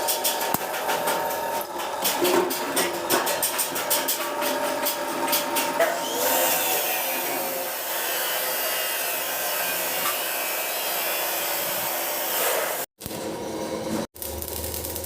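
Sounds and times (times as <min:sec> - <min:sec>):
metalworking machine whirring: 0:00.0 - 0:15.0.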